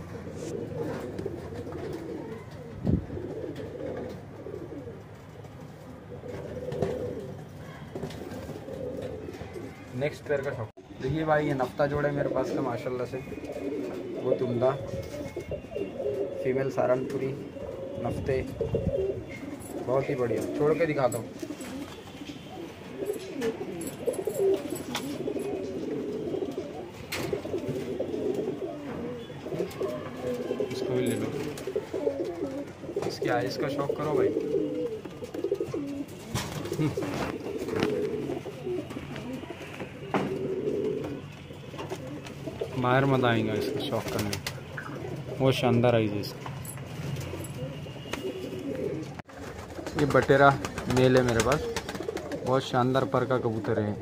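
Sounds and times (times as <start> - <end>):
pigeons cooing: 0.0 - 10.7, 11.6 - 54.0.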